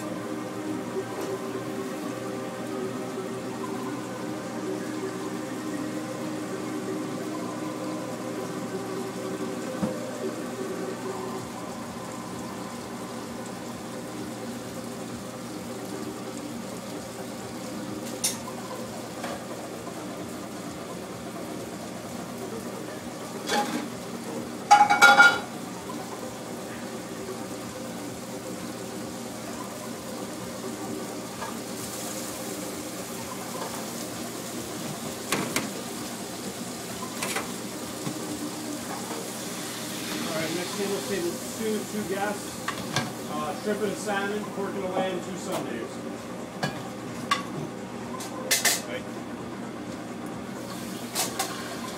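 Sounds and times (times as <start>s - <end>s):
frying: 0.0s - 51.9s
hum of kitchen equipment: 0.0s - 51.9s.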